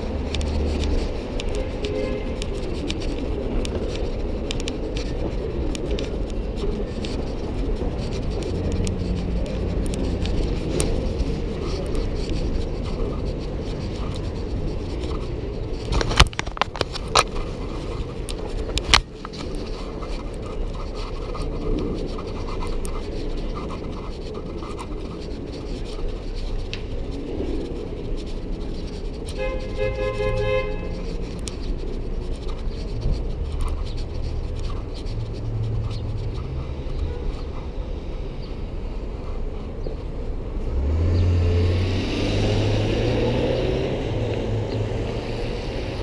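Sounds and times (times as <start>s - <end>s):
microphone handling noise: 0.0s - 37.2s
traffic rumble: 0.0s - 46.0s.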